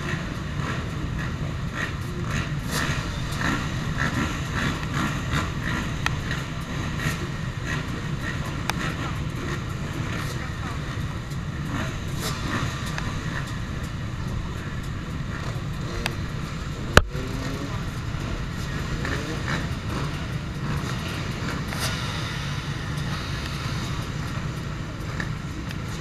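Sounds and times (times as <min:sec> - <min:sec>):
crowd voices: 0:00.0 - 0:26.0
motorbike engines rumbling: 0:00.0 - 0:26.0
sharp crack: 0:00.6 - 0:14.0, 0:15.6 - 0:26.0.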